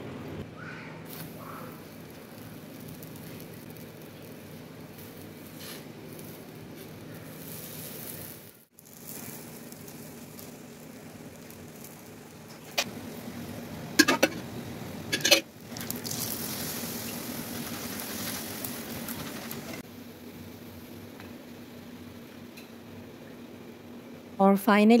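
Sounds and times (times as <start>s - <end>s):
flatbread sizzling in ghee: 1.1s - 21.6s.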